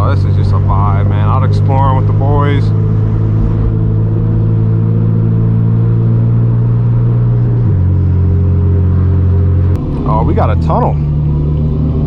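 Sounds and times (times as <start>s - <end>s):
car exhaust droning while cruising: 0.0s - 12.0s.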